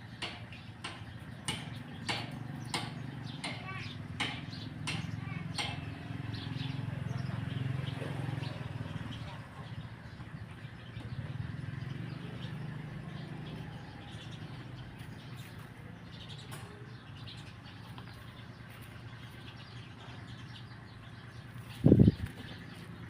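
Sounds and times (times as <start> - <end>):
distant birds chirping: 0.0 - 23.0.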